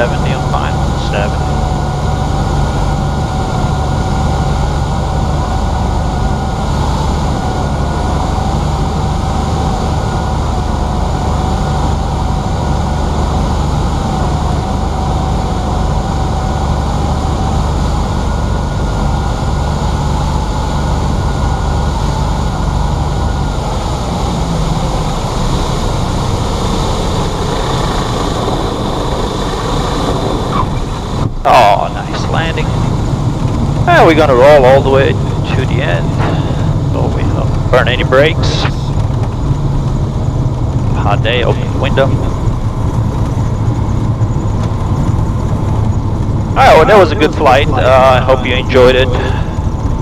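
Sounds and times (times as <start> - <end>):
airplane engine and propeller droning: 0.0 - 50.0.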